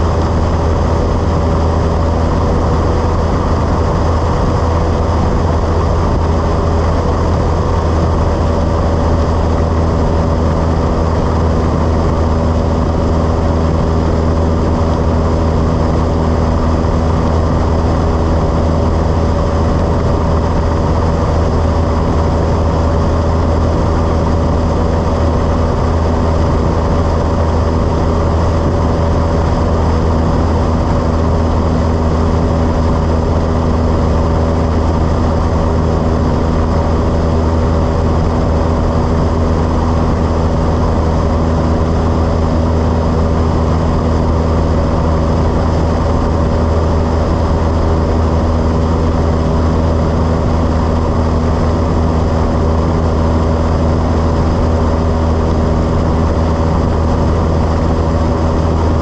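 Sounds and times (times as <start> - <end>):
airplane engine droning: 0.0 - 59.0.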